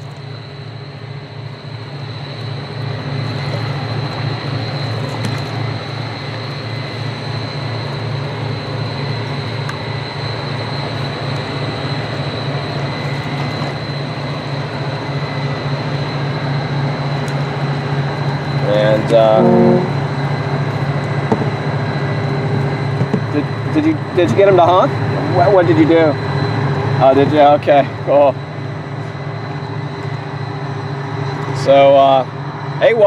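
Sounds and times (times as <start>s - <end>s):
boat diesel engines droning: 0.0s - 33.0s.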